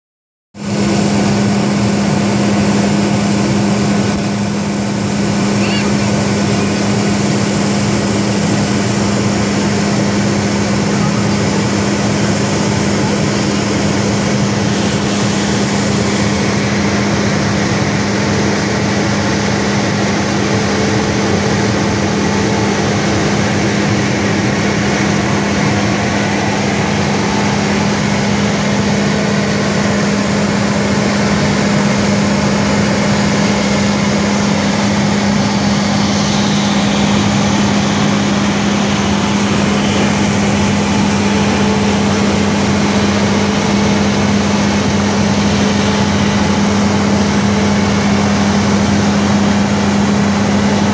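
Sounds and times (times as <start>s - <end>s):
engine running with whirring: 0.6s - 50.9s.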